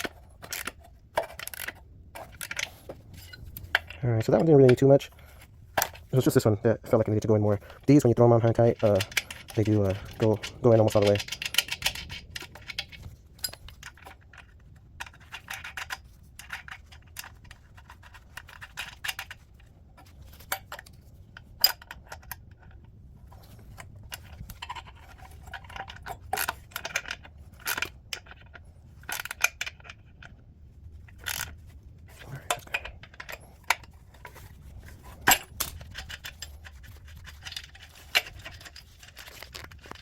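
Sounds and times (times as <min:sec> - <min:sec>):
metal parts and tools clinking: 0:00.0 - 0:40.0.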